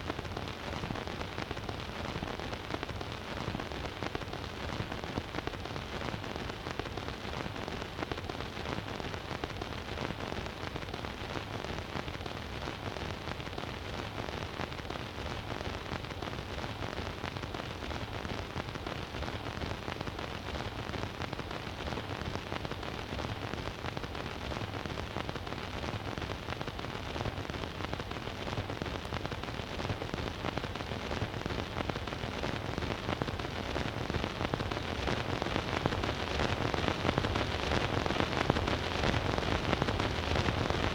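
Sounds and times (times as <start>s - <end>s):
record surface crackle and hiss: 0.0s - 40.9s.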